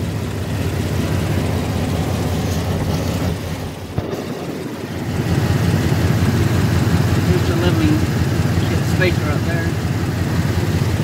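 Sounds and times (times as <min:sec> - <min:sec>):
pickup truck engine idling: 0:00.0 - 0:11.0.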